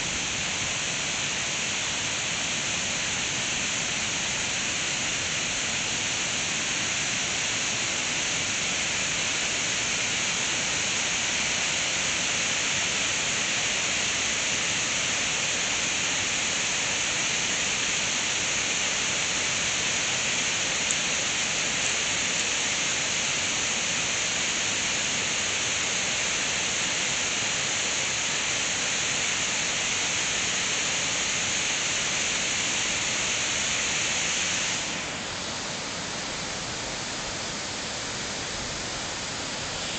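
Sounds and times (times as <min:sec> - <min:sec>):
waterfall and rapids rushing: 0:00.0 - 0:39.9.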